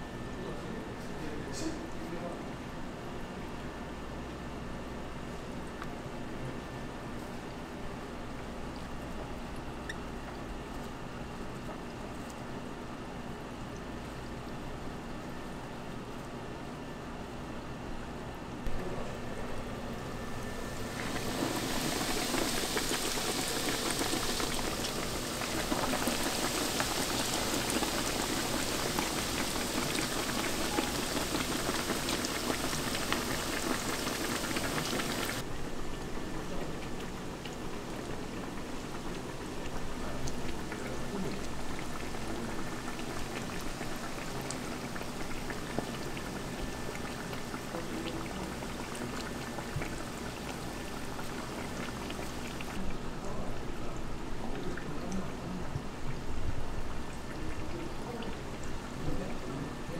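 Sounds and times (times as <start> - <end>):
deep-frying sizzle with crackles: 3.4 - 59.9.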